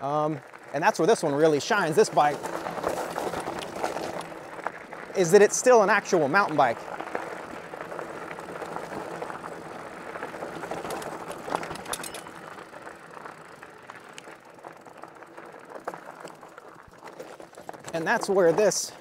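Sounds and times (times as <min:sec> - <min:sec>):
bike tyres crunching on gravel: 0:00.0 - 0:19.0.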